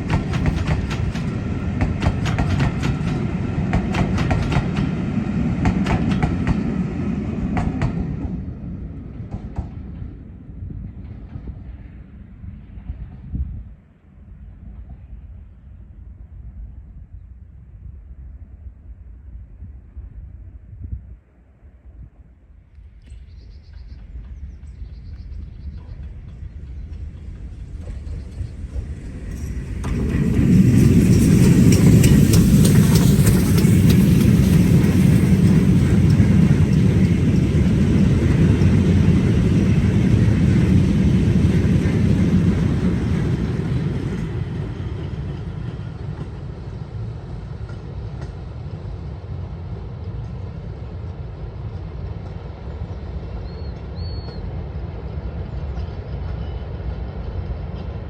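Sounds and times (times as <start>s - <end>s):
train passing rumble: 0.0s - 58.0s.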